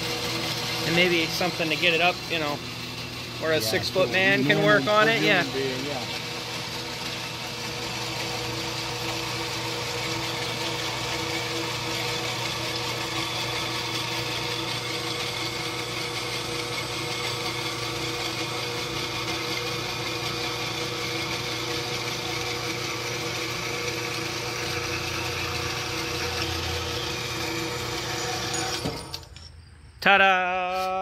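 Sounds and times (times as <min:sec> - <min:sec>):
band saw cutting metal: 0:00.0 - 0:29.4.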